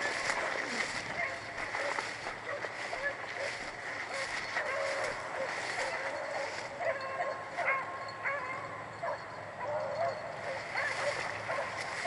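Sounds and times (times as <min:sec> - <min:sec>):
hounds baying and yipping: 0:00.0 - 0:12.0.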